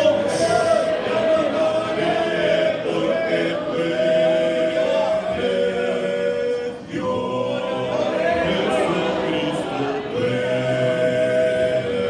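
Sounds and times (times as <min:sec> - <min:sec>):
congregation singing: 0:00.0 - 0:12.0.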